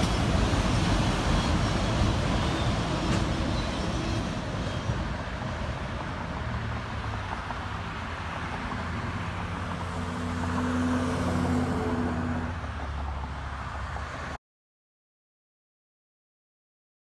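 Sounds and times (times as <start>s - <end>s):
cars passing: 0.0s - 14.4s
truck passing: 0.0s - 14.4s.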